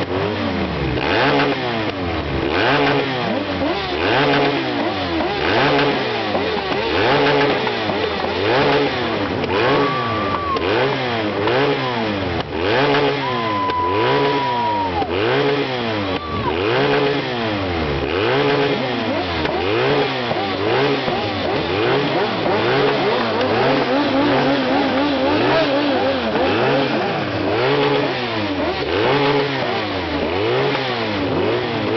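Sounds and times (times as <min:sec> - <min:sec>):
motorcycle engine revving: 0:00.0 - 0:31.9
second engine running: 0:00.0 - 0:31.9.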